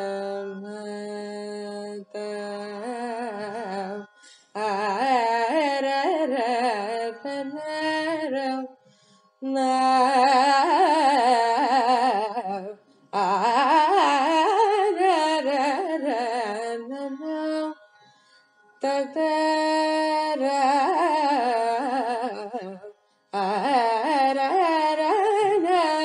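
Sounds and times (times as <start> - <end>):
woman singing with ornaments: 0.0 - 8.8, 9.4 - 17.9, 18.8 - 26.0.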